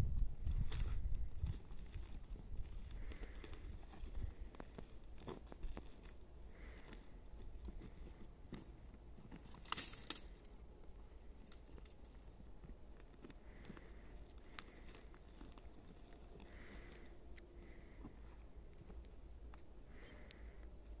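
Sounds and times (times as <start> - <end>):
faint rustling: 0.4 - 21.0.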